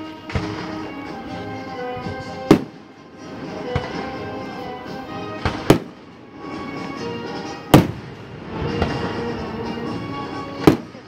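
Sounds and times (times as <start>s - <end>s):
music: 0.0s - 11.0s
firework shells bursting: 0.1s - 11.0s.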